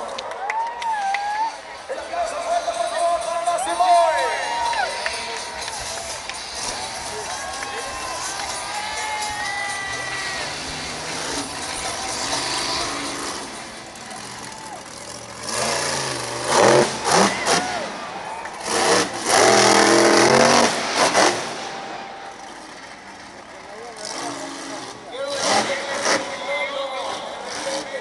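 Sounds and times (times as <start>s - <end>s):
truck engine revving hard: 5.0s - 28.0s.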